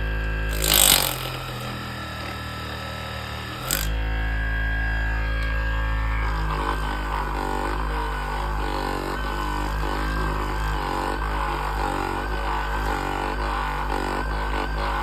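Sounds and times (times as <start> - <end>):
massage gun motor humming: 0.0 - 15.0.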